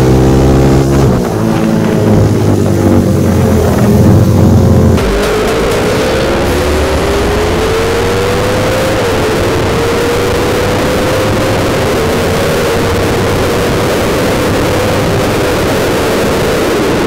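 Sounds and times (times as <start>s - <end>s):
motorcycle engine at speed: 0.0s - 17.0s
wind noise: 0.0s - 17.0s.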